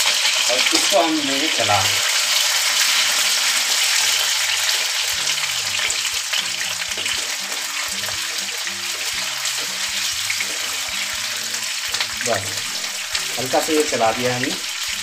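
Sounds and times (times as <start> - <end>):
potatoes sizzling in hot oil: 0.0 - 15.0
spatula stirring: 2.1 - 15.0.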